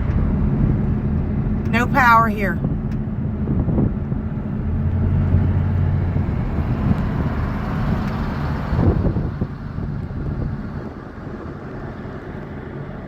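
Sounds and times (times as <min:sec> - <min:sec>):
car engine: 0:00.0 - 0:13.0
road noise: 0:00.0 - 0:13.0.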